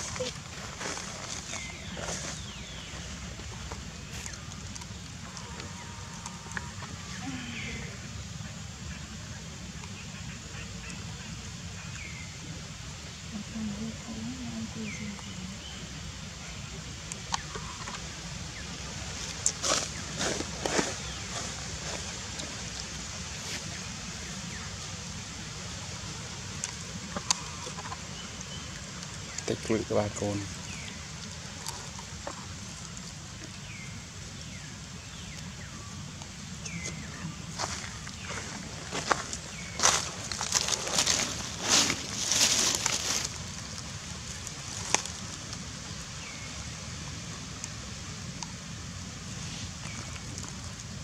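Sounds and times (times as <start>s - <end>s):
dry husk crackling: 0.0s - 7.9s, 16.4s - 51.0s
faint hiss: 0.0s - 51.0s.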